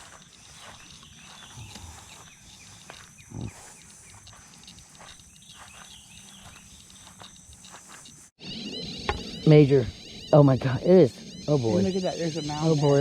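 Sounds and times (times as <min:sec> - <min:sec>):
high-pitched insect drone: 0:00.0 - 0:13.0
small chirps: 0:00.0 - 0:13.0.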